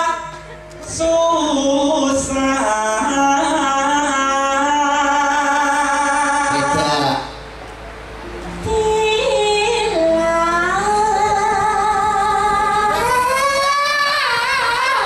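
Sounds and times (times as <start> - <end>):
person singing into microphone: 0.0 - 7.4, 8.5 - 15.0.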